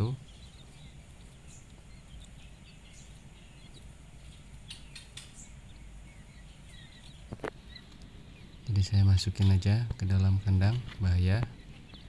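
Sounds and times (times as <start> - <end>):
quail chicks peeping: 0.0 - 12.0.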